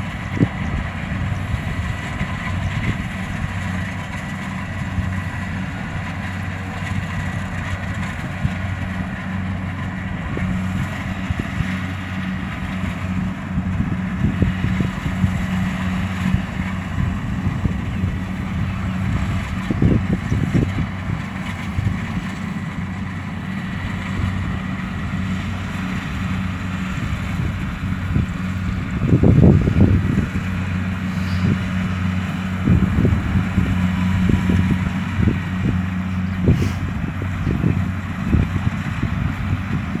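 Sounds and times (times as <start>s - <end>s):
combine harvester engine drone: 0.0s - 40.0s
low rumbling surges: 0.0s - 40.0s.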